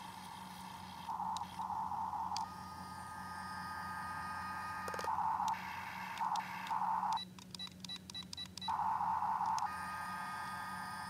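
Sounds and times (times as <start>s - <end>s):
small electric motors whining: 0.0s - 7.2s, 8.7s - 11.0s.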